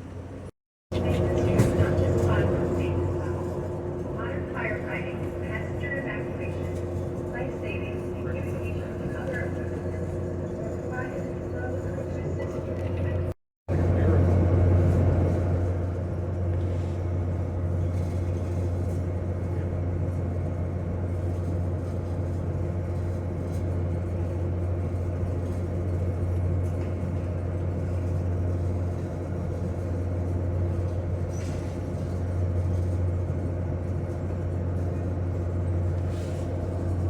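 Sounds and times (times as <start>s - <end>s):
low engine drone: 0.0s - 37.0s.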